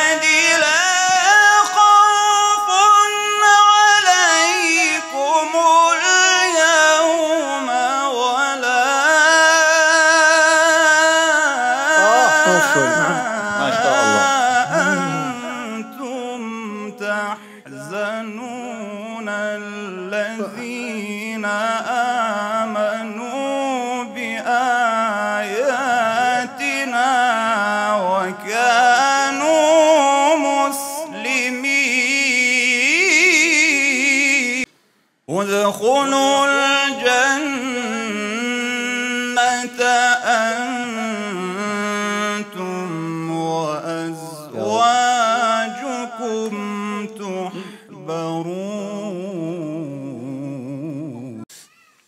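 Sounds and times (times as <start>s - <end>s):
person chanting recitation: 0.0s - 34.7s, 35.3s - 51.5s.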